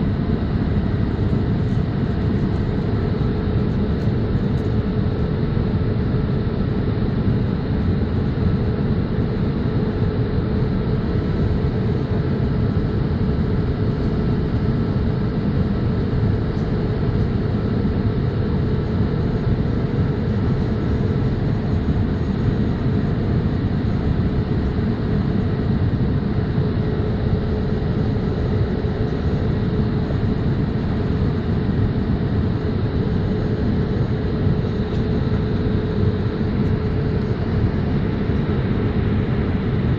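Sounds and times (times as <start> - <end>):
airliner cabin engine rush: 0.0 - 39.9
steady hum: 0.0 - 39.9.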